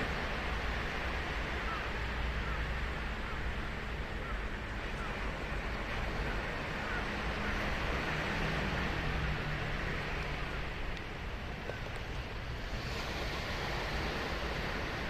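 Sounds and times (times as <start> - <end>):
ocean surf breaking on a beach: 0.0 - 15.0.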